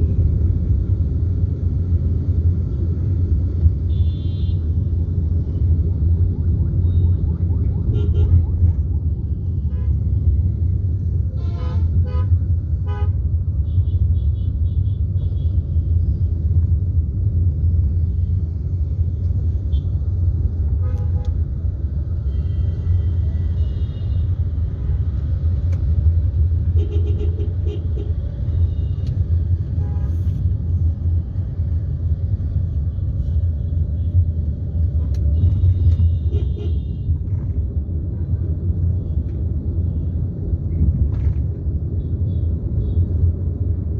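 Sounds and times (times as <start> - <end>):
road traffic rumble: 0.0 - 43.9.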